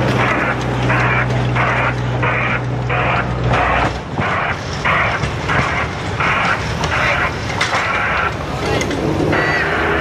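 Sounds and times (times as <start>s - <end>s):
locomotive chuffing: 0.0s - 10.0s
low engine hum: 0.0s - 10.0s.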